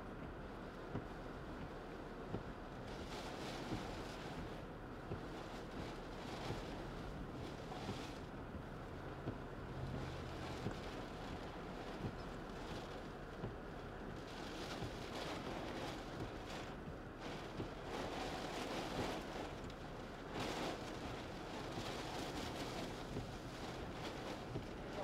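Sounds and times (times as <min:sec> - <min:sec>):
storm wind and rain: 0:00.0 - 0:25.0.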